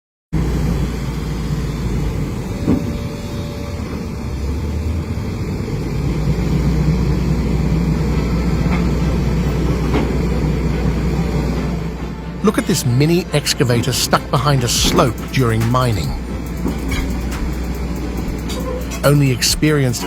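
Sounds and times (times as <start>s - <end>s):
excavator diesel engine running: 0.4s - 20.0s.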